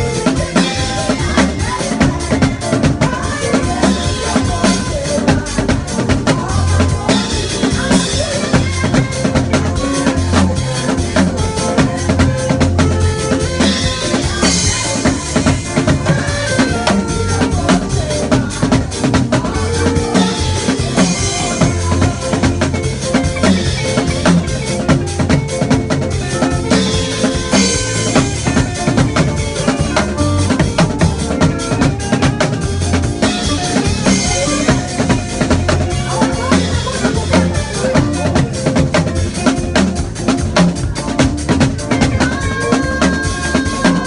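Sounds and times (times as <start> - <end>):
drum kit beat: 0.0 - 44.0
worship band music: 0.0 - 44.0.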